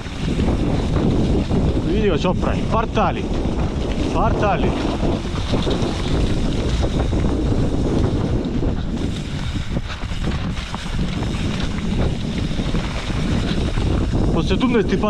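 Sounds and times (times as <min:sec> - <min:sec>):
motorcycle low rumble: 0:00.0 - 0:15.0
wind buffeting microphone: 0:00.0 - 0:15.0.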